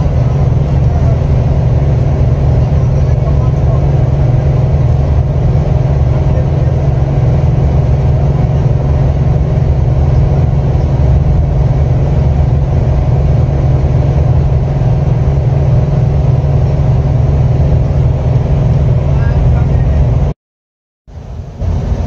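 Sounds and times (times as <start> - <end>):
bus engine and road noise: 0.0 - 20.4, 21.1 - 22.0.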